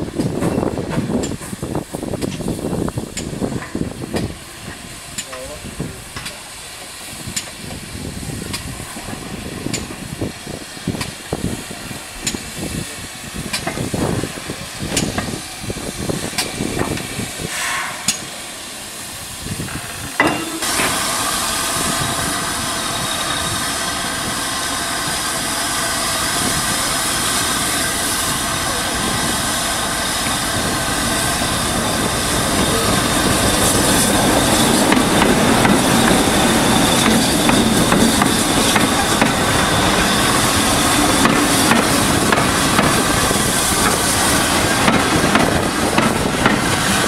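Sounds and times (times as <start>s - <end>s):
diesel locomotive engine running: 0.0s - 47.0s
hissing steam: 0.0s - 47.0s
steam locomotive exhaust chuffs: 0.0s - 47.0s.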